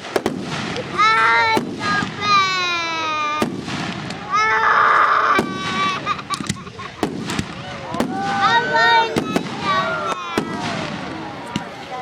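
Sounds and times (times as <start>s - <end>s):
bright fireworks hiss: 0.0s - 12.0s
fireworks bangs: 0.0s - 12.0s.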